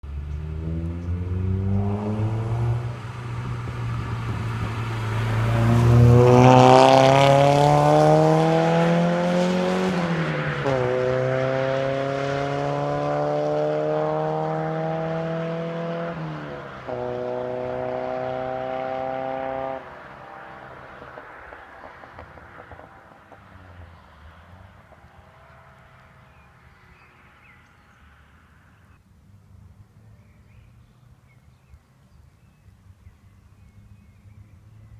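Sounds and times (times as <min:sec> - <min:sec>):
car engine accelerating: 0:00.0 - 0:28.6.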